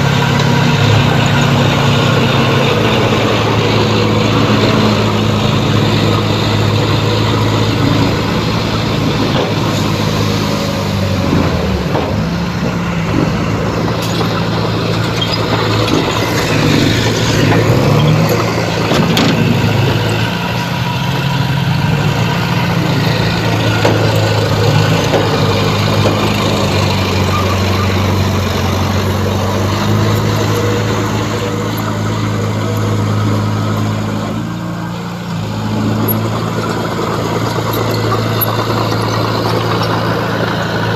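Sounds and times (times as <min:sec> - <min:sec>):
diesel machinery engine running: 0:00.0 - 0:40.9.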